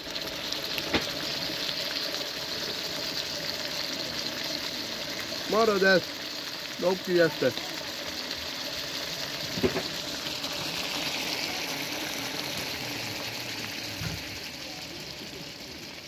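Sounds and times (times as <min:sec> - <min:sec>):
stew sizzling in a pot: 0:00.0 - 0:16.0.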